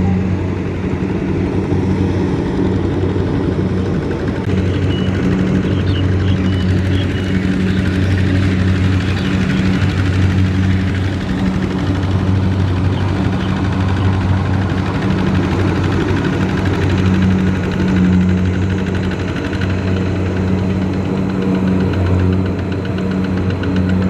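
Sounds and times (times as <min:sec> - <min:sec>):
single-cylinder diesel engine running: 0:00.0 - 0:24.0.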